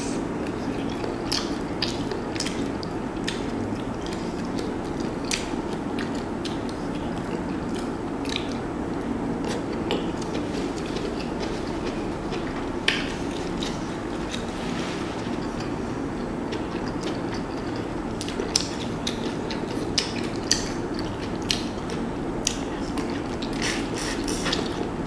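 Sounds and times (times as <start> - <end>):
person chewing with wet smacks: 0.0 - 14.6, 15.2 - 25.0
low background hum: 0.0 - 25.0.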